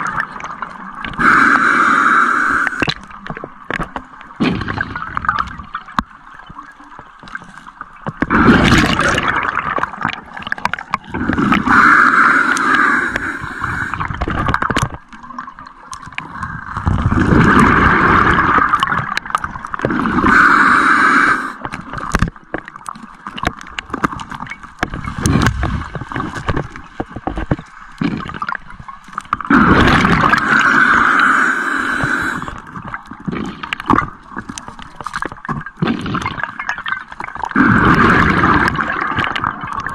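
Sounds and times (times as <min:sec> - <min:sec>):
bubbles gurgling underwater: 0:00.0 - 0:39.9.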